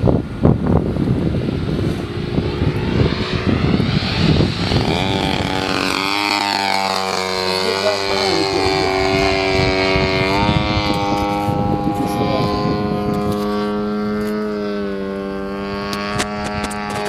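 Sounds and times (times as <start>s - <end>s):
model airplane engine droning: 0.0s - 17.0s.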